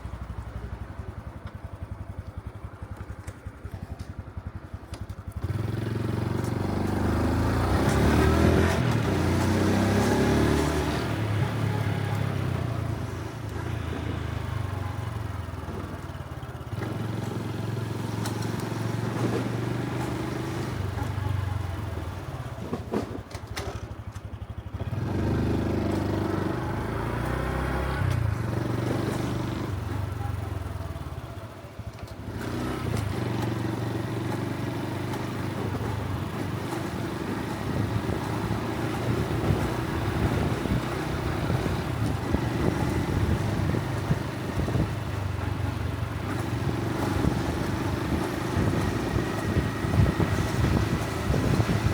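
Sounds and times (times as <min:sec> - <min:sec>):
motorcycle engine and exhaust: 0:00.0 - 0:51.9.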